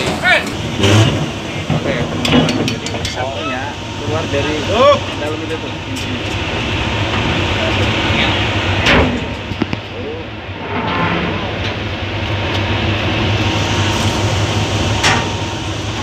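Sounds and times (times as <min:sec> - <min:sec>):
low hum of engines and machinery: 0:00.0 - 0:16.0.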